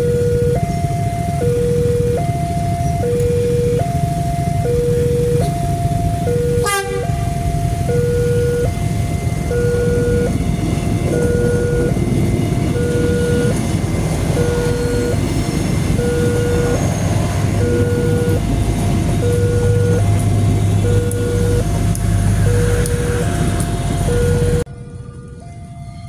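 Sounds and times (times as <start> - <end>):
level crossing two-tone alarm: 0.0 - 24.7
train passing: 0.0 - 26.0.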